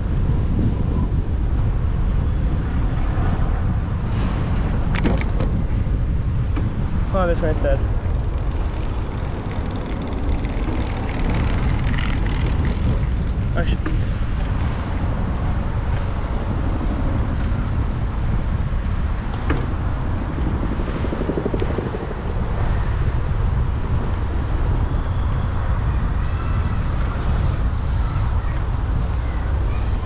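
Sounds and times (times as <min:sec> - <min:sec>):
wind rumbling on microphone: 0:00.0 - 0:30.0.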